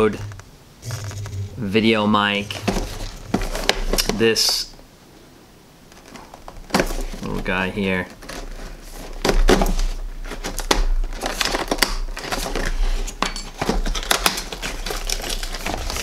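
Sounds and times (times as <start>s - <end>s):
packaging crinkling and scraping: 0.0s - 4.7s, 5.9s - 16.0s.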